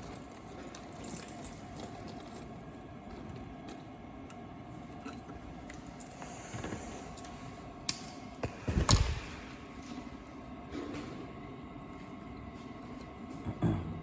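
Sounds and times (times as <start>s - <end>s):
workshop hum: 0.0s - 14.0s.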